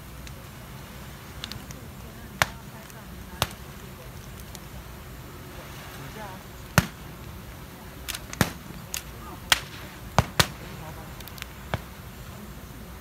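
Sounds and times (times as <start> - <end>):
bonfire cracks and pops: 0.0 - 13.0.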